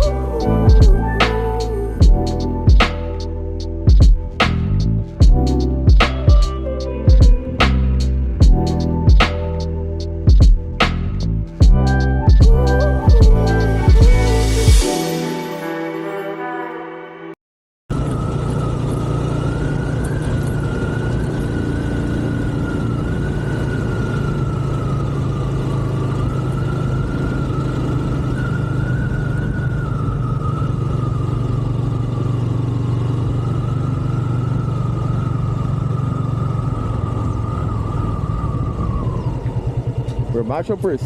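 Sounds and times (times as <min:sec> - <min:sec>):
motorcycle engine drone: 0:00.0 - 0:14.9, 0:17.9 - 0:41.0.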